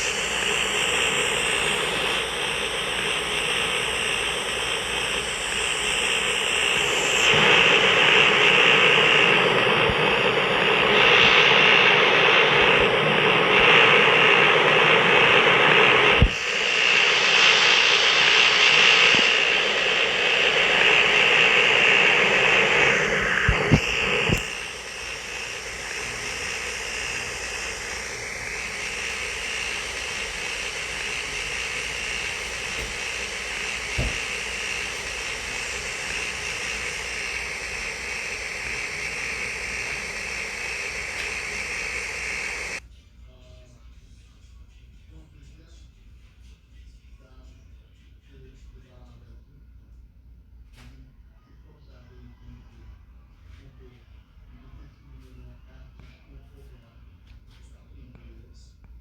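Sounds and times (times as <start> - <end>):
air conditioner rushing air: 0.0 - 49.6.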